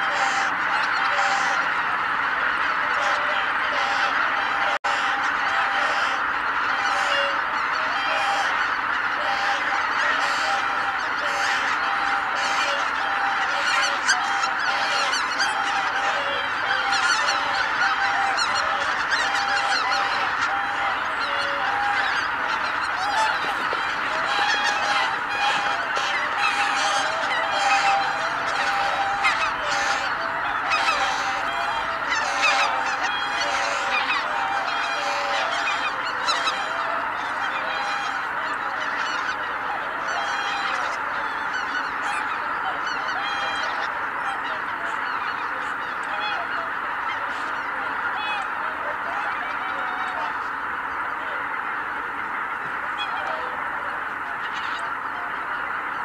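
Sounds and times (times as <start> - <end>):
geese honking in flight: 0.0 - 56.0.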